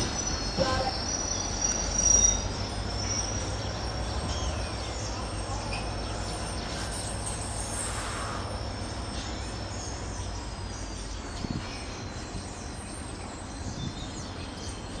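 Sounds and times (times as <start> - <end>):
train wagons rumbling on rails: 0.0 - 15.0.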